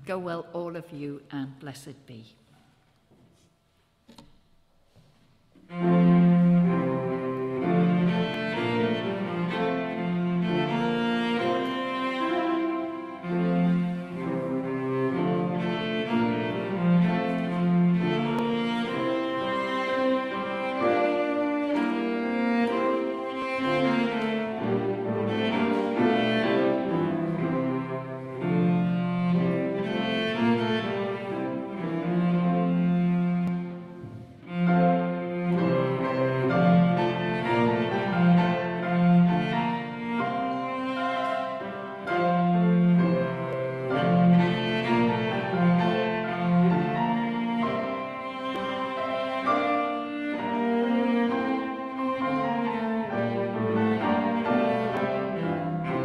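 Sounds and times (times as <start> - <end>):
cello bowed notes: 5.6 - 56.0
grand piano playing: 5.6 - 56.0.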